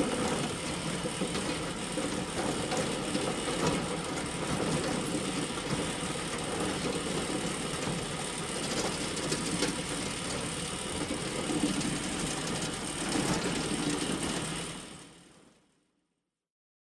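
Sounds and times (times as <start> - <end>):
hay bale elevator clattering: 0.0 - 14.6.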